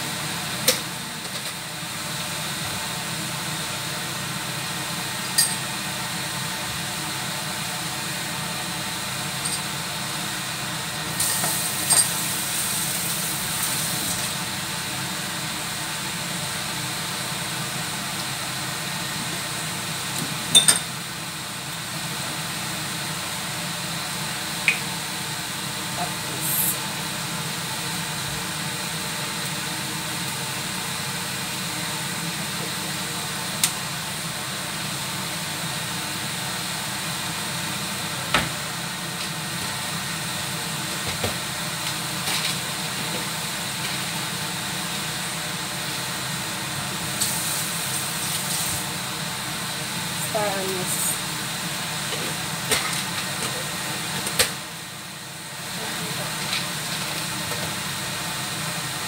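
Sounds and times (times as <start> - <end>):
wok cooking hiss: 0.0 - 59.0.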